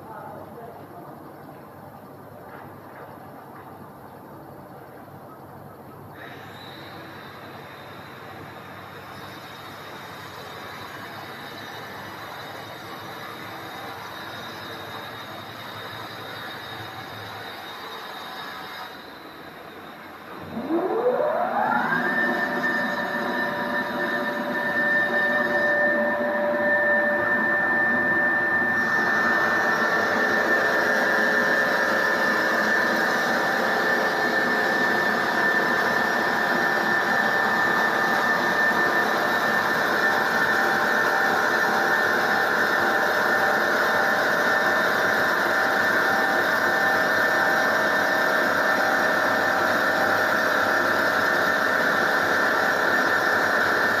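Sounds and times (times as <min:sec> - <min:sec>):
marble-cutting machine whining: 0:06.2 - 0:54.0.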